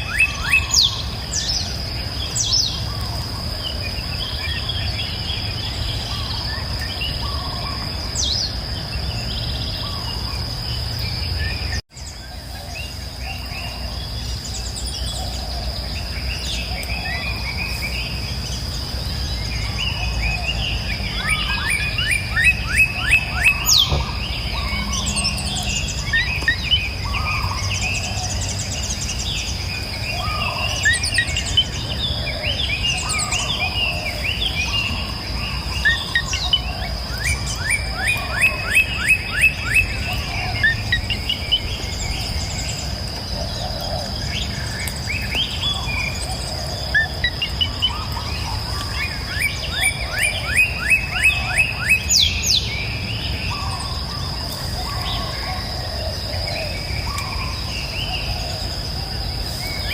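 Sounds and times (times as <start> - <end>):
birds chirping and singing: 0.0 - 59.9
high insect drone: 0.0 - 59.9.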